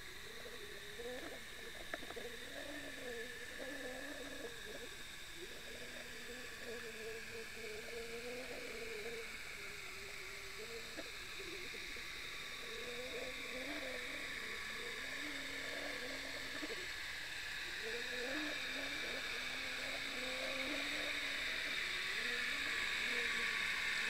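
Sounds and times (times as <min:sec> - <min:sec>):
low wavering hum: 0:00.0 - 0:24.0
muffled underwater hiss: 0:00.0 - 0:24.0.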